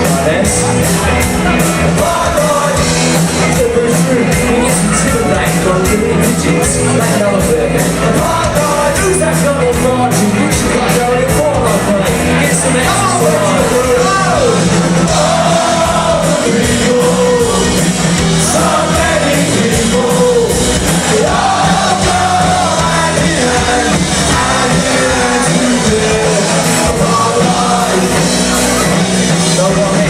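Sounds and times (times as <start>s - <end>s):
person singing: 0.0s - 30.0s
rock band playing: 0.0s - 30.0s.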